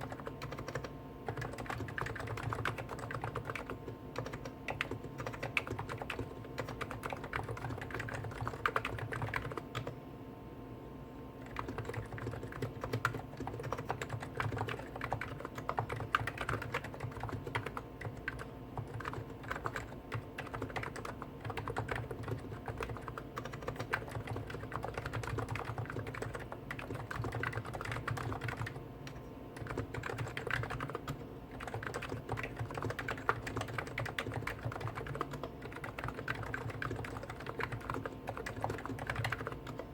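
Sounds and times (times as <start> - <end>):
rapid keyboard typing: 0.0 - 10.0, 11.4 - 39.9
steady low hum: 0.0 - 39.9.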